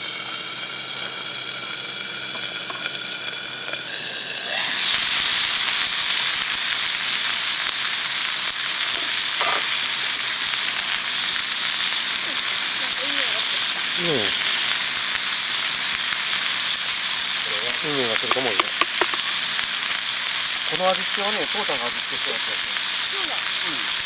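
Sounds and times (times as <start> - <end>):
steak sizzling in skillet: 0.0 - 24.0.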